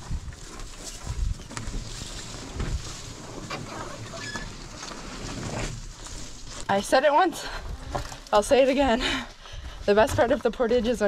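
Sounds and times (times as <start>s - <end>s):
footsteps on dirt trail: 0.0s - 11.0s.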